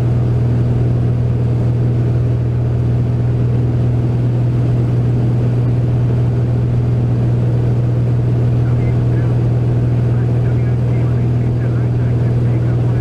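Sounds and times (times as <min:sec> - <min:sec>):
propeller aircraft engine drone: 0:00.0 - 0:13.0.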